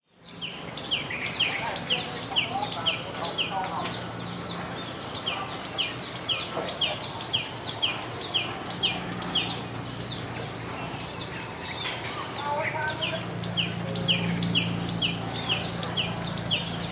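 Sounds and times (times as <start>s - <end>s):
small birds chirping: 0.1s - 16.9s.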